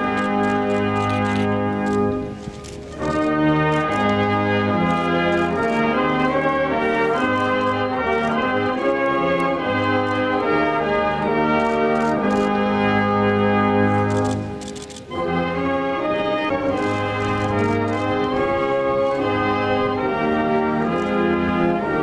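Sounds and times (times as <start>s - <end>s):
wind band playing slow chords: 0.0s - 22.0s.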